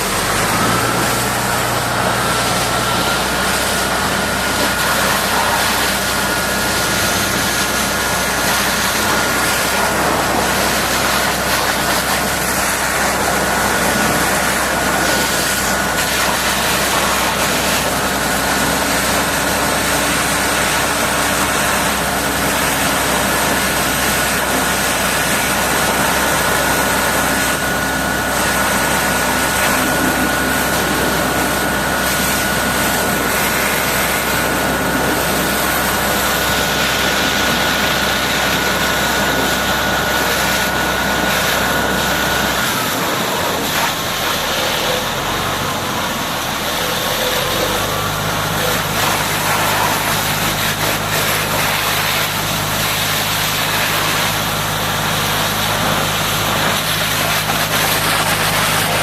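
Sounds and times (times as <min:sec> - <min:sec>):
high engine whine: 0:00.0 - 0:59.0
large engine low rumble: 0:00.0 - 0:59.0.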